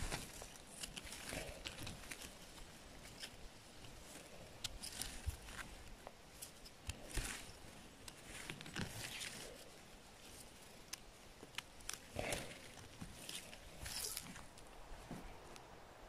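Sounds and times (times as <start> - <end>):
faint rustling: 0.0 - 15.8.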